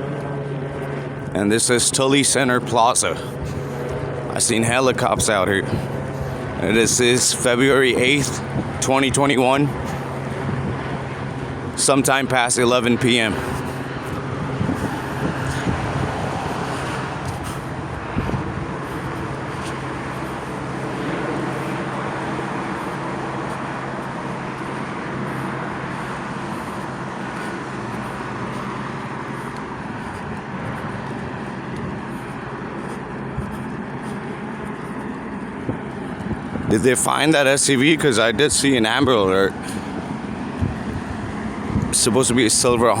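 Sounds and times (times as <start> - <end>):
low engine hum: 0.0 - 43.0
road traffic: 0.0 - 43.0.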